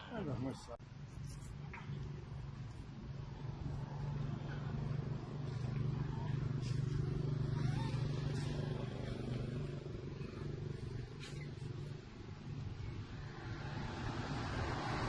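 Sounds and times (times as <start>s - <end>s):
engine humming: 1.5s - 15.0s.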